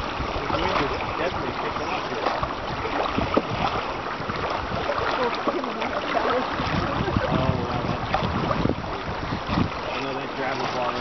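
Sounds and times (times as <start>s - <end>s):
water rushing and splashing: 0.0s - 11.0s
wind buffeting microphone: 0.0s - 11.0s.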